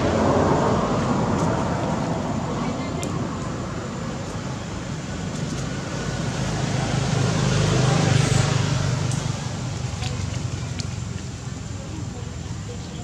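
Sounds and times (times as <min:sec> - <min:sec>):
vehicle passing: 0:00.0 - 0:11.7.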